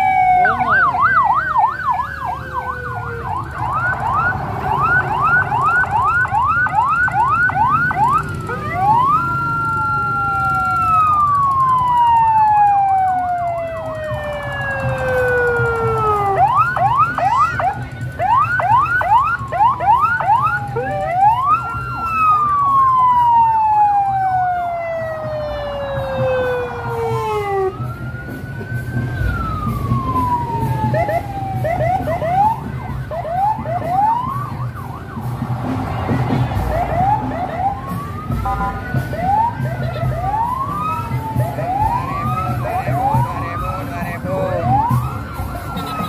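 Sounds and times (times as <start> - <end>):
electronic sirens yelping and wailing: 0.0 - 46.0.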